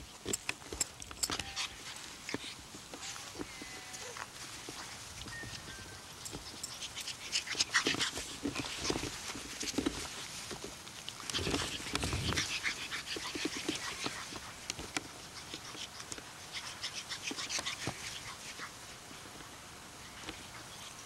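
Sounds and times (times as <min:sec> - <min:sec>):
rustling and crackling in grass: 0:00.0 - 0:21.0
dog breathing and grunting: 0:00.2 - 0:10.4, 0:11.2 - 0:19.1.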